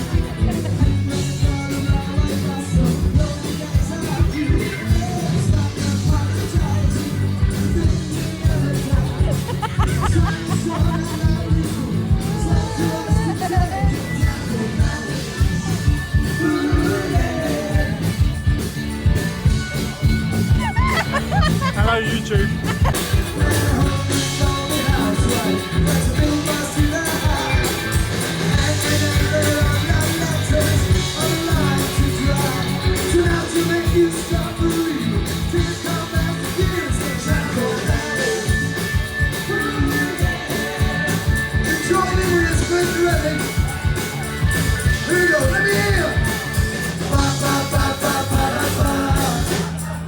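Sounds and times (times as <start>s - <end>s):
person singing: 0.0s - 18.5s, 20.0s - 44.1s, 44.9s - 50.0s
guitar: 0.0s - 50.0s
steady drum beat: 0.0s - 50.0s.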